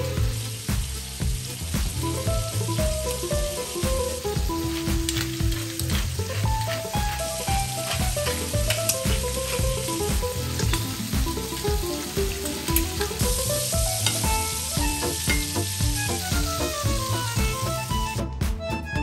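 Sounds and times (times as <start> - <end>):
shrimp sizzling in frying pan: 0.0 - 18.3
background music with bass line: 0.0 - 19.0.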